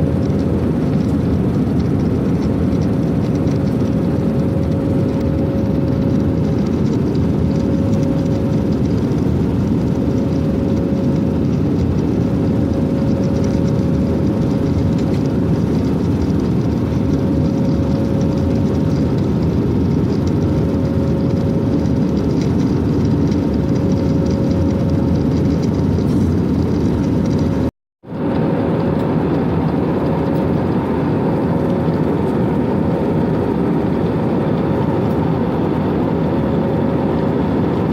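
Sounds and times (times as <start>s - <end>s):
airplane engine drone: 0.0s - 37.9s
steady hum tone: 0.0s - 37.9s.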